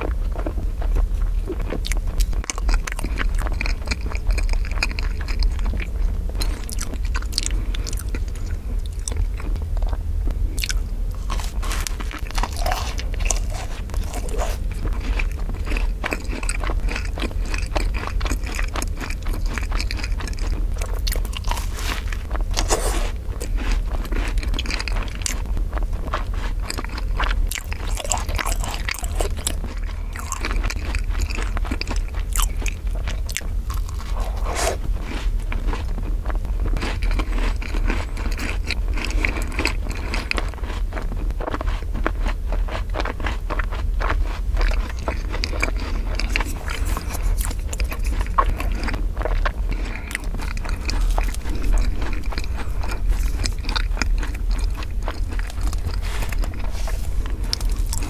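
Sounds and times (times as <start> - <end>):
chewing soft cake: 0.0 - 58.0
crunching biscuit shell: 0.0 - 58.0
low hum: 0.0 - 58.0.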